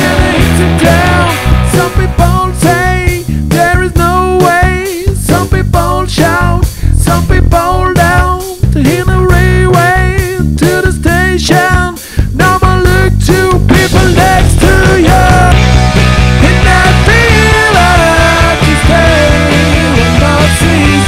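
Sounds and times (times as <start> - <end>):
man singing: 0.0 - 15.7, 16.3 - 21.0.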